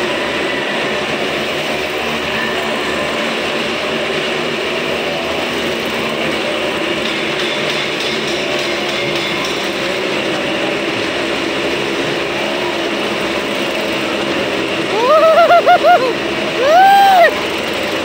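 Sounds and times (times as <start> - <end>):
motorcycle engines droning: 0.0 - 18.0.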